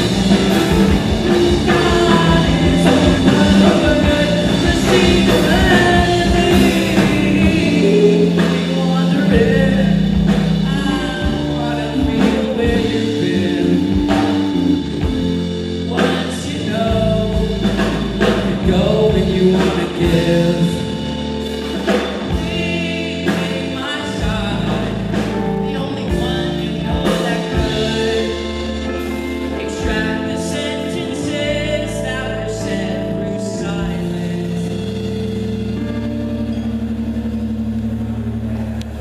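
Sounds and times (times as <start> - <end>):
man singing: 0.0 - 36.2
drum kit: 0.0 - 39.0
electric guitar: 0.0 - 39.0
sustained low notes: 0.0 - 39.0.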